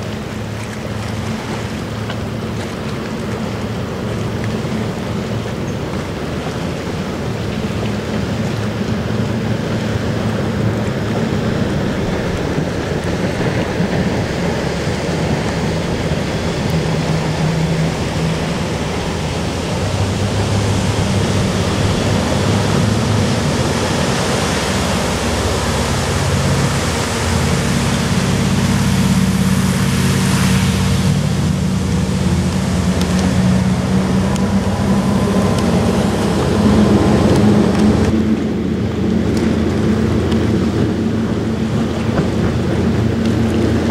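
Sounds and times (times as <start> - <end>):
boat engines droning: 0.0 - 43.9
rushing water: 0.0 - 43.9
wind: 0.0 - 43.9.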